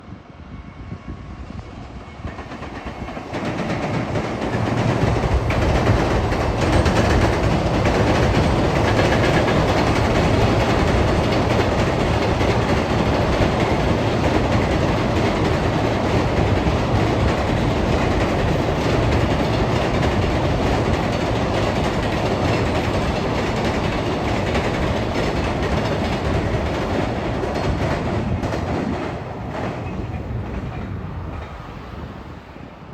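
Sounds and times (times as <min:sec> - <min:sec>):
freight train wagons rumbling: 0:02.0 - 0:32.9.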